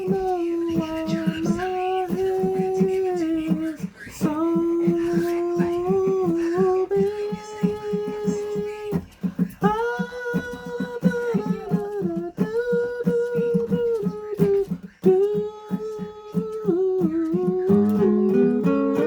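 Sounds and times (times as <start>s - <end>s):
girl singing wordless notes: 0.0s - 19.0s
plucked accompaniment: 0.0s - 19.0s.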